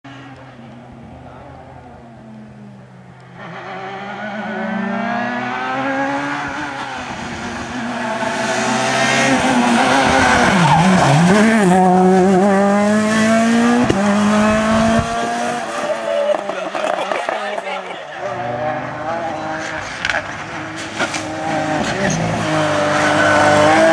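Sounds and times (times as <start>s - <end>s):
rally car engine at full throttle: 0.1s - 23.9s.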